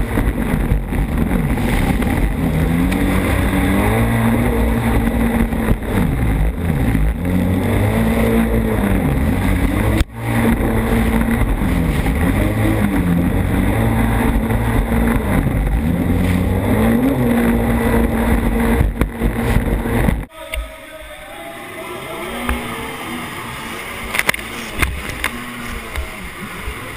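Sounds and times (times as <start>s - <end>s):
rushing water: 0.0s - 19.4s, 21.6s - 26.9s
jet ski engine: 0.0s - 20.3s, 21.2s - 26.9s
wind: 0.0s - 26.9s.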